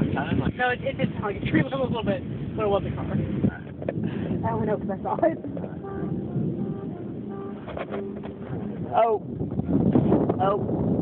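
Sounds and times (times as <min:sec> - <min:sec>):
rushing background noise: 0:00.0 - 0:11.0
vehicle engine humming: 0:00.0 - 0:11.0.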